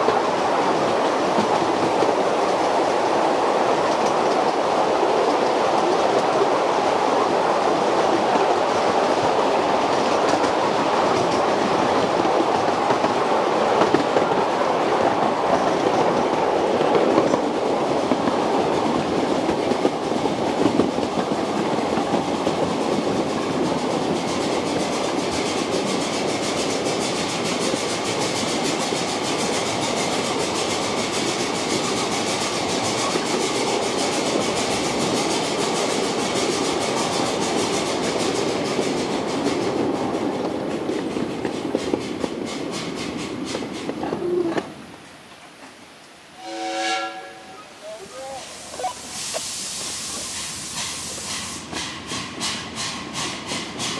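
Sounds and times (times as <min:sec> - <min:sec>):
train wheels rolling on rail: 0:00.0 - 0:53.9.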